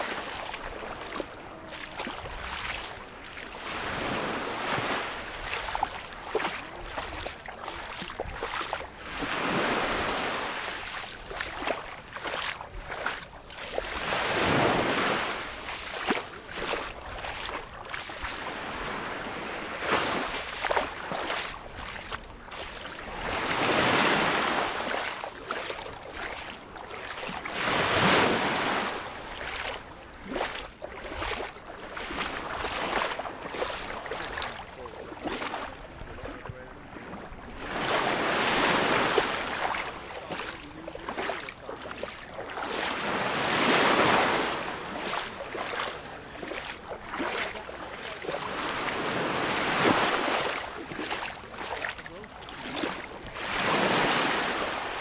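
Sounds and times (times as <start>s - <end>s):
waves washing up a shore: 0.0s - 55.0s.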